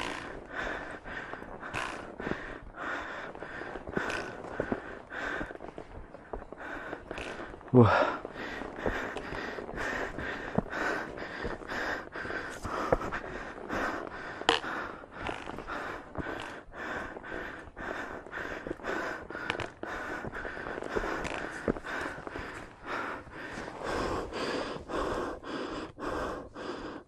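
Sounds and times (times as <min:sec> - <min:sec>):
man panting heavily: 0:00.0 - 0:27.0.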